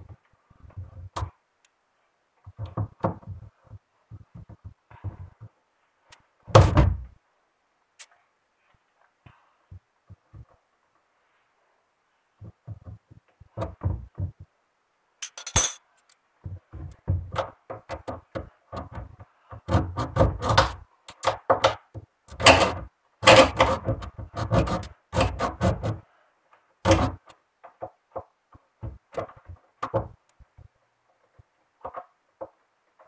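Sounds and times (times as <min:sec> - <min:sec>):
hands working on plastic parts: 0:00.0 - 0:07.2, 0:08.0 - 0:11.1, 0:12.2 - 0:14.6, 0:15.2 - 0:33.0.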